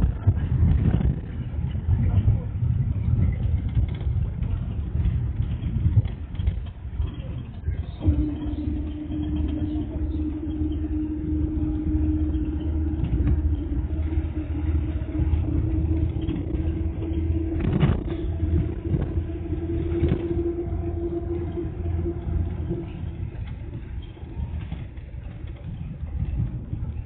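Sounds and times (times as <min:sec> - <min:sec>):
minibus engine and road rumble: 0:00.0 - 0:27.0.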